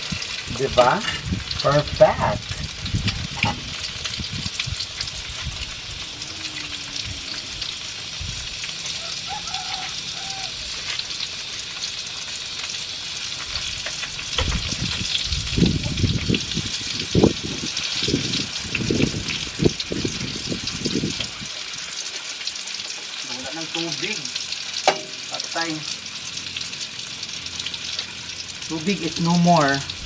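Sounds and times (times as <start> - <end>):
omelette sizzling in hot oil: 0.0 - 30.0.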